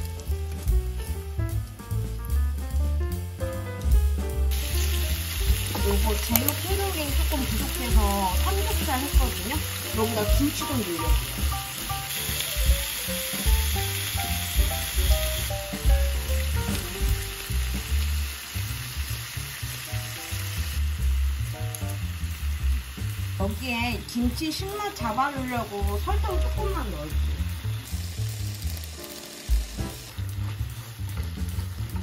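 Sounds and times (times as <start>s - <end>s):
pork sizzling in a pan: 0.0s - 32.0s.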